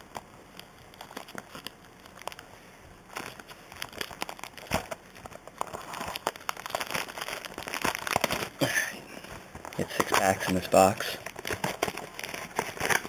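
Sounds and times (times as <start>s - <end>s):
plastic wrap snapping: 0.0s - 2.5s, 3.1s - 13.0s
plastic wrap crinkling and tearing: 0.0s - 13.0s.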